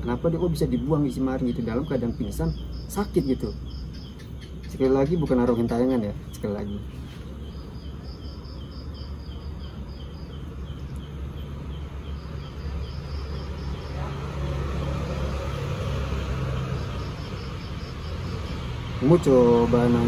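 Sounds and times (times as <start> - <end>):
distant traffic rumble: 0.0 - 20.0
insects chirping rhythmically: 0.0 - 20.0.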